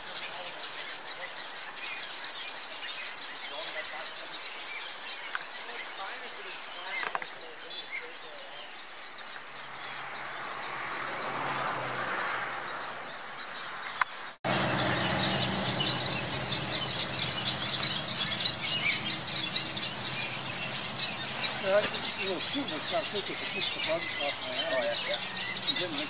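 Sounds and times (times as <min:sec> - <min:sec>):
bird chicks squealing: 0:00.0 - 0:26.0.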